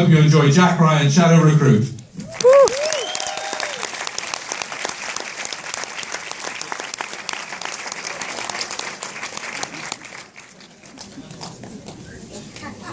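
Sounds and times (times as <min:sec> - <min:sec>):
audience applauding: 0:02.2 - 0:12.7.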